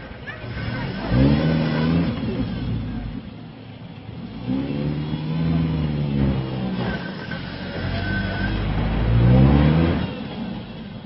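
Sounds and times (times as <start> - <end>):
pickup engine revving hard: 0.5 - 3.2, 4.2 - 10.7.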